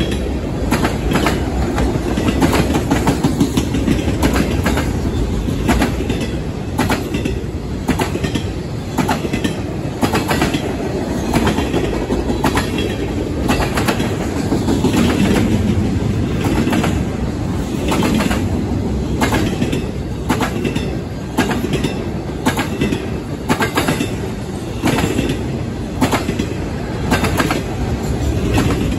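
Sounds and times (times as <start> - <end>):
freight cars rumbling: 0.0 - 28.9
wheels clacking on rail joints: 0.0 - 28.9.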